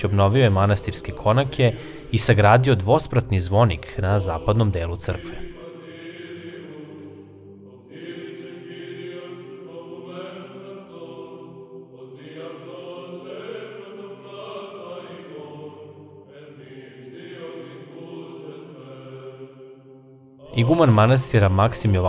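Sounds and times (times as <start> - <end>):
choir singing slow chant: 0.0 - 22.0.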